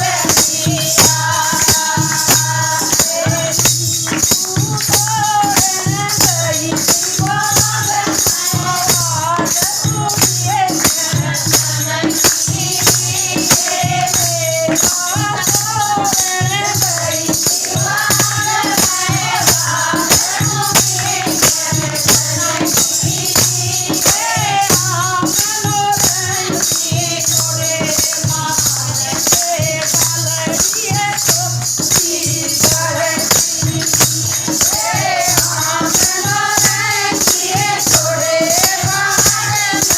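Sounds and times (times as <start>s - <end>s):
rattling jingling percussion: 0.0s - 39.9s.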